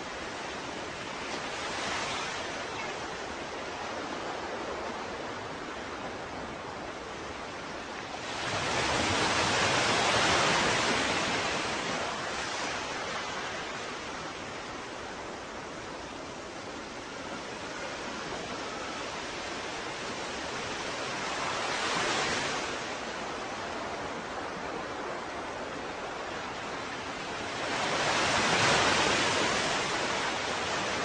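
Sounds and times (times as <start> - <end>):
ocean waves washing ashore: 0.0 - 31.0.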